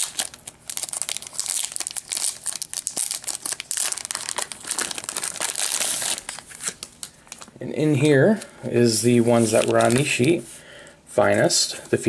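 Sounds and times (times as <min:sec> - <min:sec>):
plastic wrap crinkling: 0:00.0 - 0:08.4, 0:09.2 - 0:10.5.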